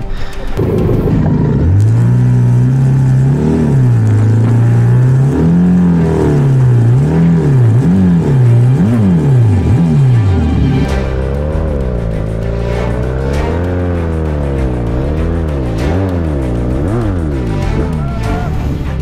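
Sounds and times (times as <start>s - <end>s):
motorcycle engine revving: 0.4s - 19.0s.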